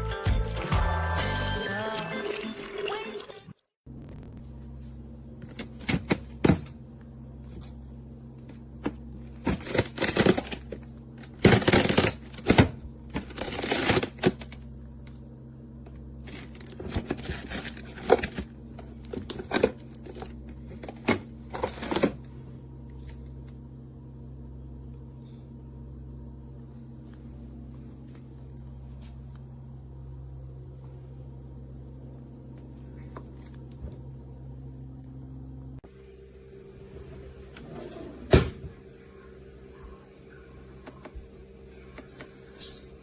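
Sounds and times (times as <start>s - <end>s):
low electrical hum: 3.9s - 43.0s.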